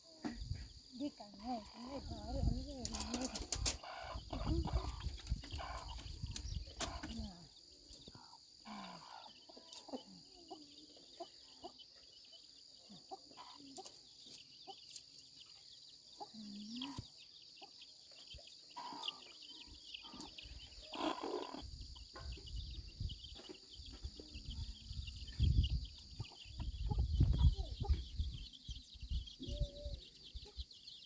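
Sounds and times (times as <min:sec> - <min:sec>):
chickens clucking: 0:00.1 - 0:30.9.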